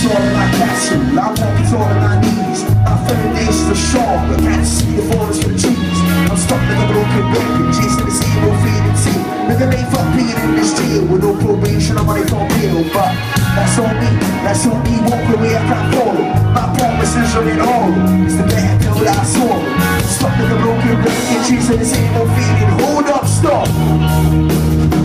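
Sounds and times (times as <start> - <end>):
heavy bass line: 0.0 - 25.0
rock band playing: 0.0 - 25.0
steady drum beat: 0.0 - 25.0.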